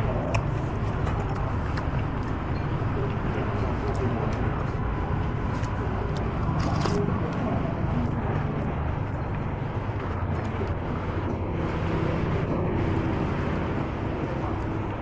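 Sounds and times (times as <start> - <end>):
indistinct voices: 0.0 - 15.0
street traffic rumble: 0.0 - 15.0.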